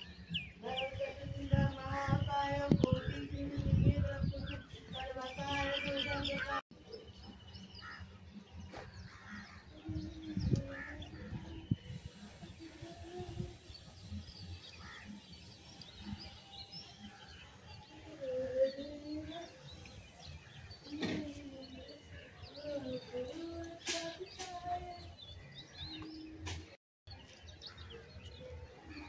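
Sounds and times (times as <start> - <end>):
outdoor ambience: 0.0 - 29.0
small birds chirping: 0.0 - 29.0.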